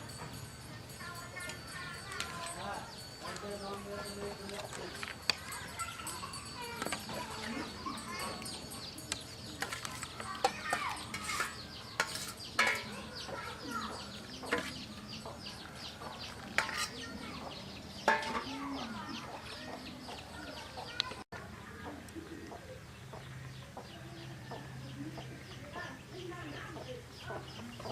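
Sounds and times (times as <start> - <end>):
chickens clucking and chirping: 1.4 - 27.9.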